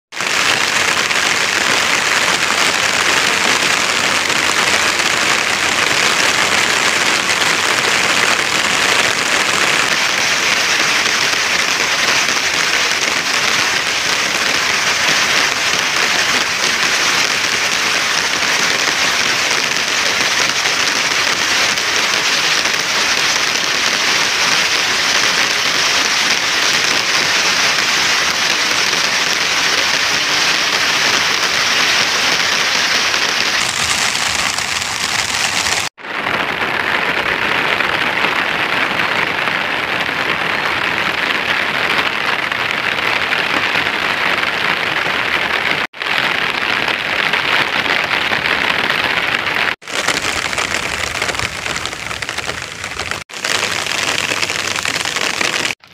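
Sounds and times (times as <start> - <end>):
steady rain falling: 0.1 - 55.9.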